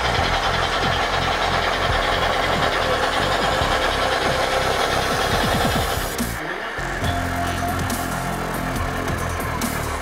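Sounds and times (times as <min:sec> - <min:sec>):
model locomotive diesel engine sound: 0:00.0 - 0:10.0.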